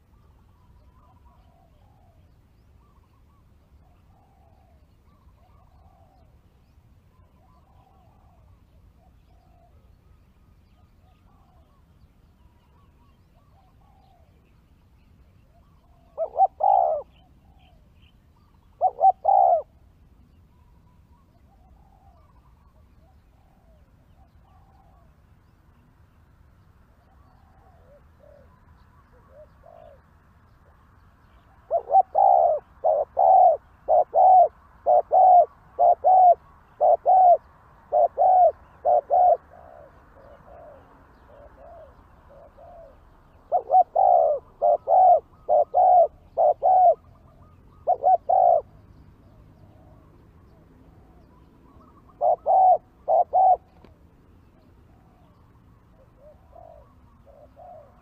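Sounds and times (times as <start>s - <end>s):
dove cooing: 0.0s - 6.4s, 7.1s - 10.0s, 10.8s - 14.5s, 15.4s - 19.9s, 20.5s - 25.2s, 27.0s - 58.0s
faint bird calls: 0.0s - 58.0s.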